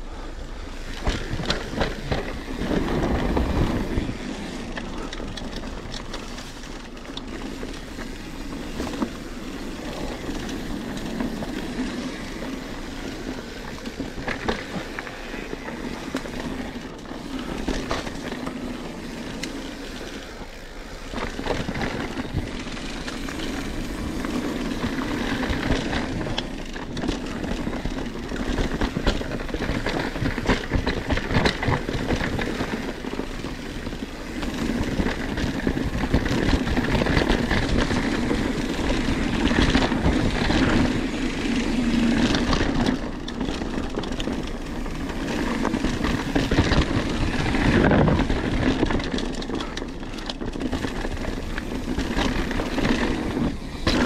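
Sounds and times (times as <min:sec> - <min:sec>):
bike rattling over bumps: 0:00.0 - 0:54.0
bike tyres rumbling on dirt: 0:00.0 - 0:54.0.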